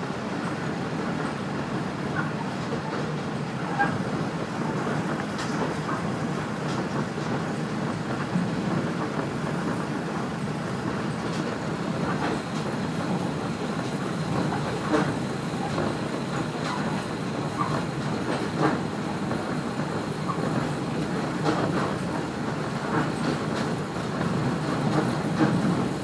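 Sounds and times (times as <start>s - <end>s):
train rumble on rails: 0.0s - 26.0s.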